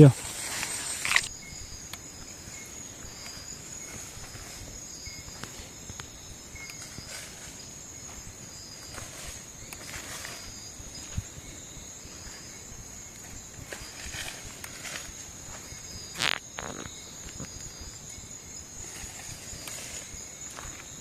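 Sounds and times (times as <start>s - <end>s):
rustles and crackles: 0.0s - 1.3s, 1.9s - 18.1s, 18.7s - 21.0s
insect chirps: 0.0s - 21.0s
insects trilling: 0.0s - 21.0s
pulsing insect tone: 0.0s - 21.0s.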